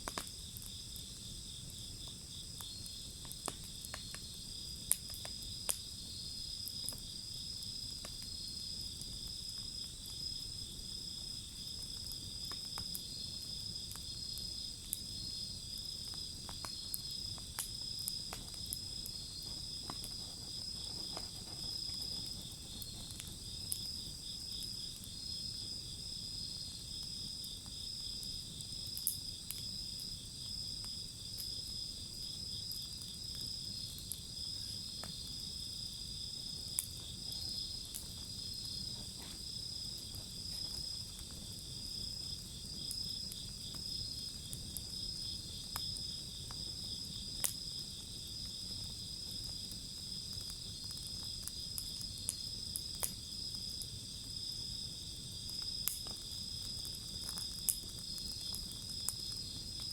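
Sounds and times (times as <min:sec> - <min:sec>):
crickets trilling: 0:00.0 - 0:59.9
wood fire crackling: 0:00.0 - 0:59.9.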